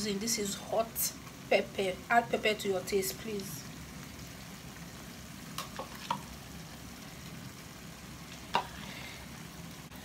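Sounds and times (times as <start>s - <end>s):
stew sizzling in oil: 0.0s - 10.0s.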